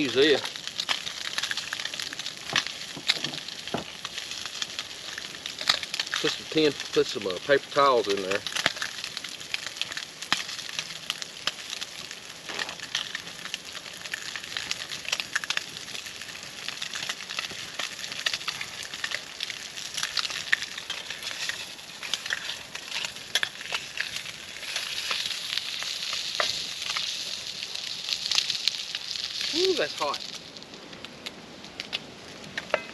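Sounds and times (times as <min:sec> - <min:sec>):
meat sizzling in oil: 0:00.0 - 0:30.9.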